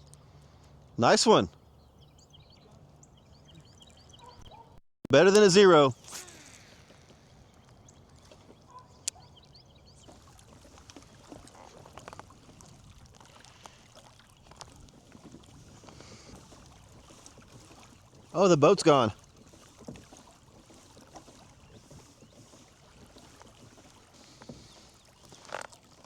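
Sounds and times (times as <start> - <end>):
water lapping and dripping: 0.0 - 4.8, 5.4 - 26.0.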